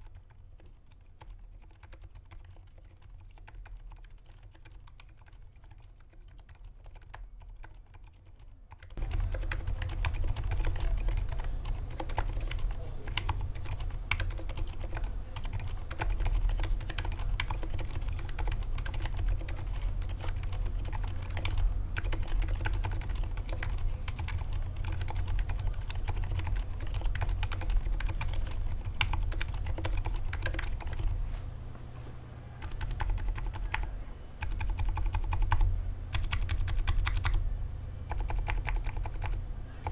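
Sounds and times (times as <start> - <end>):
muted mechanical keyboard typing: 0.0 - 31.2, 32.6 - 37.4, 38.0 - 39.9.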